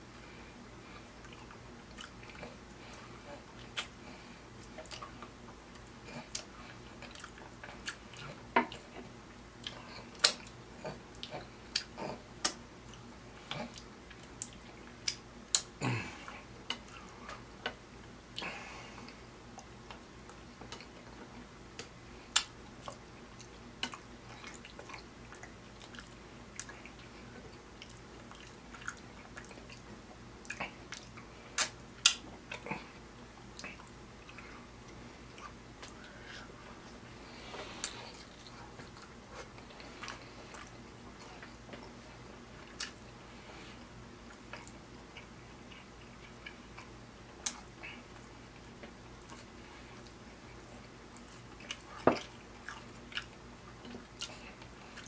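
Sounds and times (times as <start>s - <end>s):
man chewing and lip smacking: 0.1s - 43.2s, 43.8s - 55.0s.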